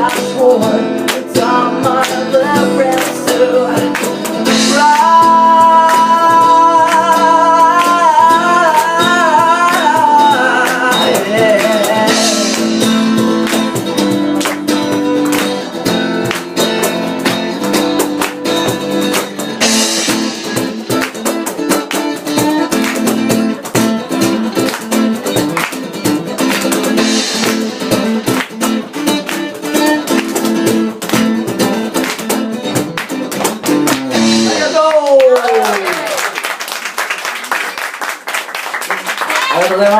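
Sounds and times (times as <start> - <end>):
guitar band music: 0.0 - 39.9.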